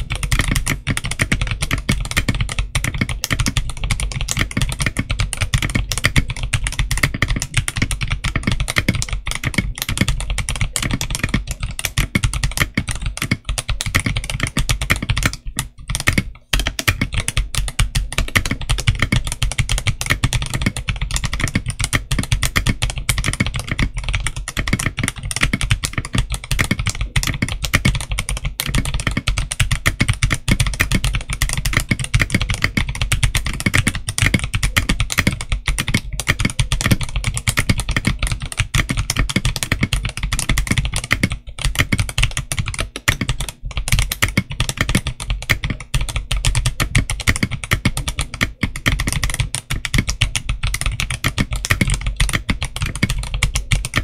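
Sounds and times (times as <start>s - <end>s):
fast typing on mechanical keyboard: 0.0s - 54.0s.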